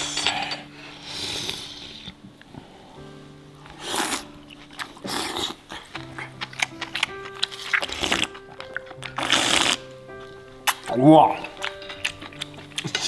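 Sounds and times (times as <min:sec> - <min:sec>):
music of long held notes: 0:00.0 - 0:13.0
noisy eating sounds: 0:00.0 - 0:13.0.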